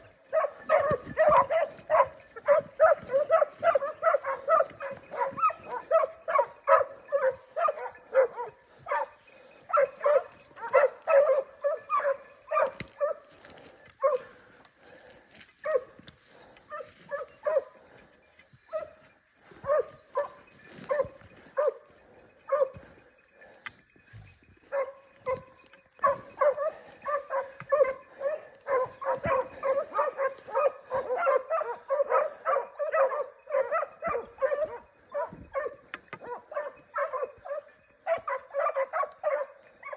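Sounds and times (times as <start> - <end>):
hound baying with high yelps: 0.0 - 23.6, 24.5 - 39.9.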